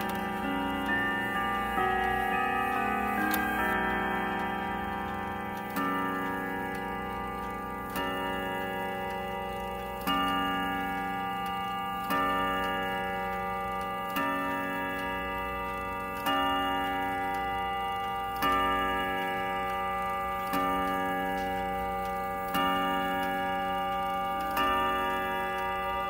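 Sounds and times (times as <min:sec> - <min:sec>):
wall clock chiming: 0:00.0 - 0:26.0.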